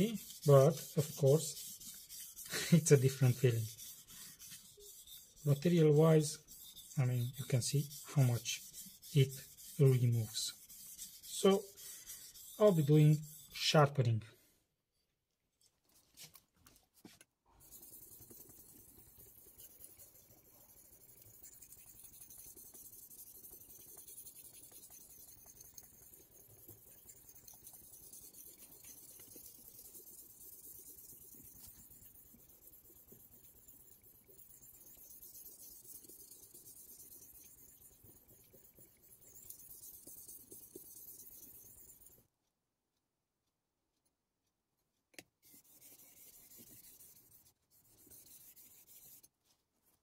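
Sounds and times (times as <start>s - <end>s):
knife scraping on whetstone: 0.0s - 13.7s, 17.6s - 42.2s, 45.5s - 49.3s.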